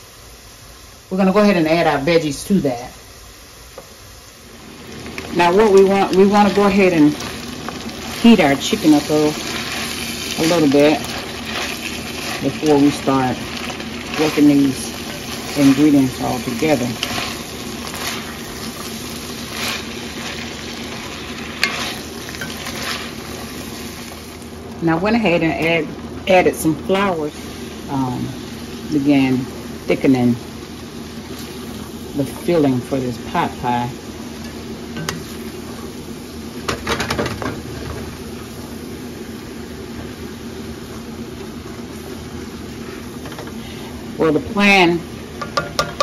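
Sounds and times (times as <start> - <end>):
low hum and rush of cooking: 0.0 - 46.0
vegetables sizzling in a pan: 0.0 - 46.0.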